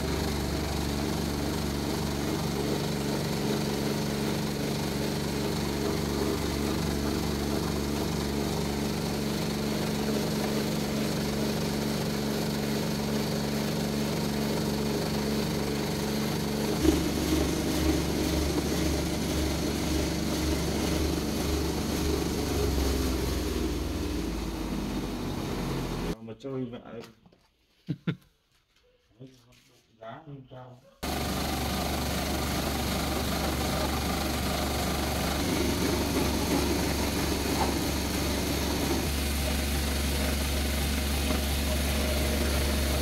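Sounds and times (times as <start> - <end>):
electric grinder running: 0.0 - 26.2, 31.0 - 43.0
feed mixer pulsing hum: 0.0 - 26.2, 31.0 - 43.0.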